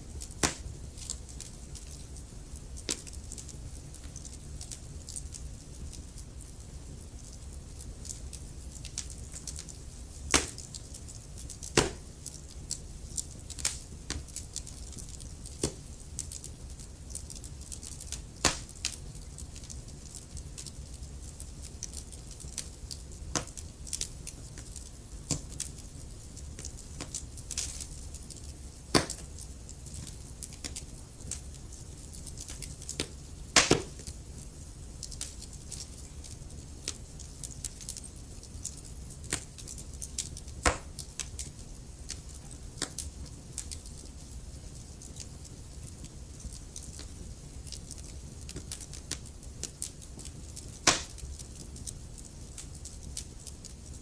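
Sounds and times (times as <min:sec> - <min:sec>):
wood fire rumble and hiss: 0:00.0 - 0:54.0
crackles and pops of logs: 0:00.1 - 0:54.0.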